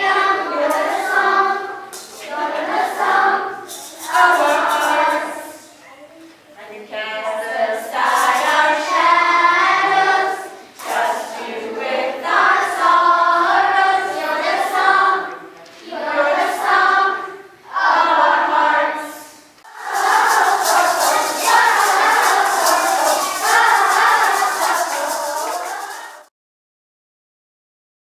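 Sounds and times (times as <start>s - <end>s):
children and adults singing: 0.0s - 5.7s, 6.6s - 26.3s.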